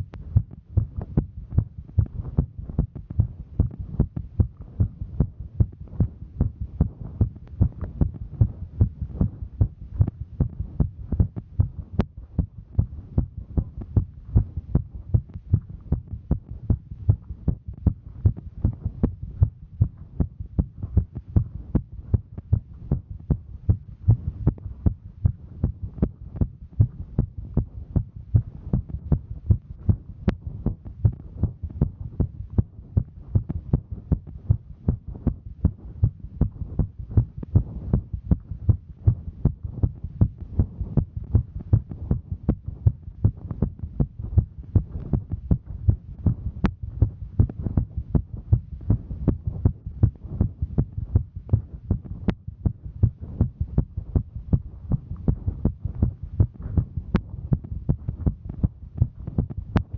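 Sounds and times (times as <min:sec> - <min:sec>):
heartbeat thuds: 0:00.0 - 0:59.9
low hum: 0:00.0 - 0:59.9.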